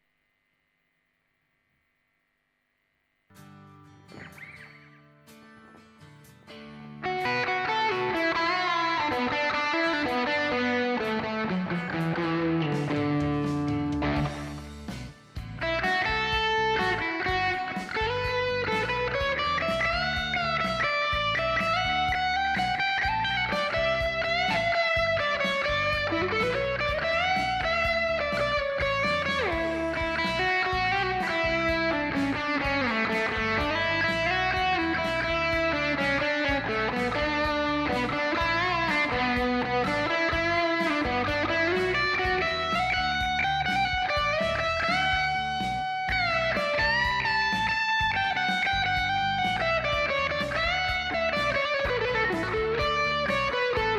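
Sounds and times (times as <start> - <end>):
electric guitar lead line: 3.4 - 5.8, 6.7 - 53.9.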